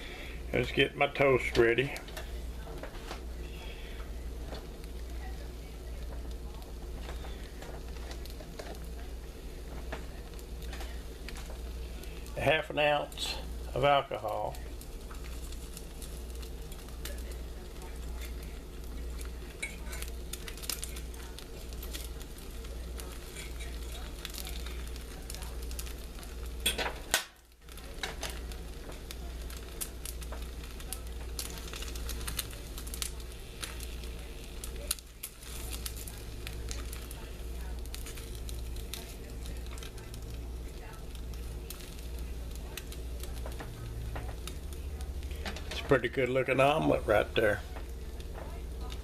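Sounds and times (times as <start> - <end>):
omelet sizzling in skillet: 0.0 - 49.0.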